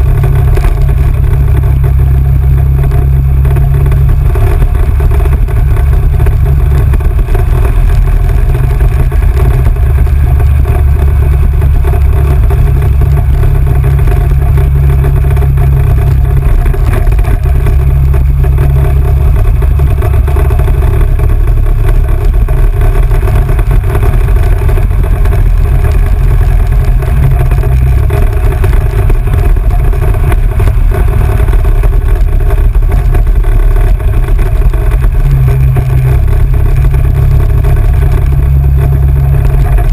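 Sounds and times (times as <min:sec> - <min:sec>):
atv engine droning: 0:00.0 - 0:39.9.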